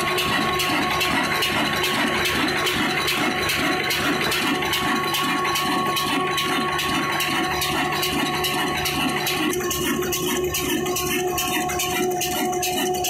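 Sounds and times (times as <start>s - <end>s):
diesel engine clattering: 0.0s - 13.0s.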